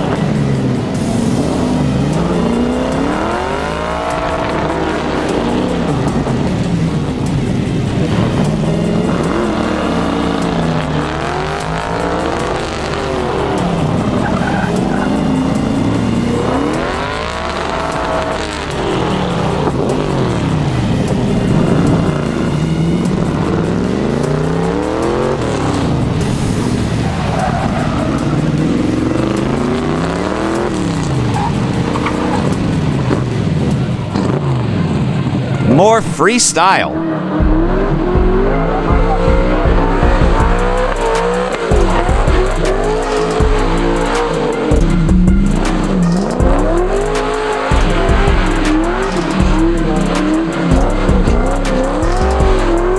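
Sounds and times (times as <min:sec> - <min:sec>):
tires squealing on pavement: 0:00.0 - 0:35.6, 0:37.0 - 0:52.9
truck engines revving hard: 0:00.0 - 0:52.9.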